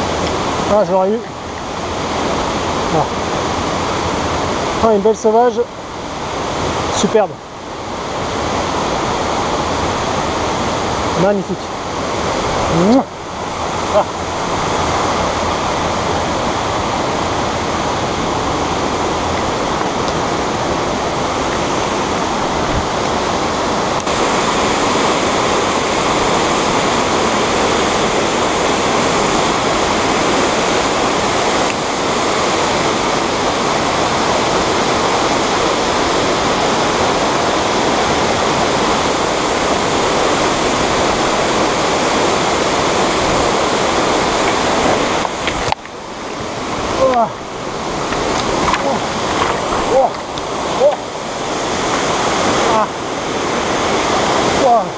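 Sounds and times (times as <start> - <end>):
stream running over stones: 0.0 - 54.9
waterfall rushing into a pool: 0.0 - 54.9.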